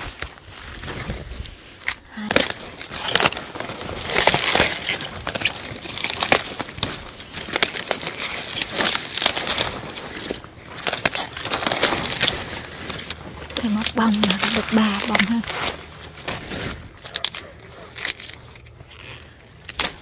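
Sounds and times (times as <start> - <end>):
cauliflower crunching and snapping: 0.0 - 20.0.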